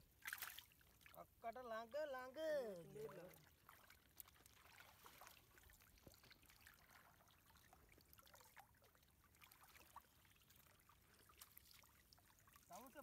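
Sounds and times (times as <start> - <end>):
small water drips: 0.0 - 1.5, 2.6 - 13.0
water splashing and trickling: 0.0 - 13.0.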